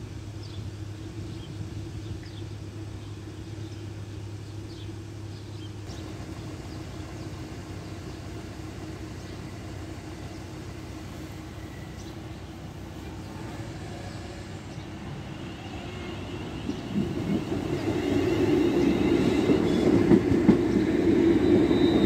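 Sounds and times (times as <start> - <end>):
traffic hum: 0.0 - 22.0.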